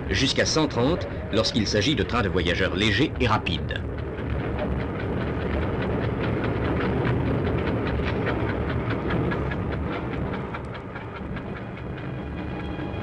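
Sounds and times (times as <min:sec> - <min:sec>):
locomotive rumble: 0:00.0 - 0:13.0
wheels clicking over rail joints: 0:00.0 - 0:13.0.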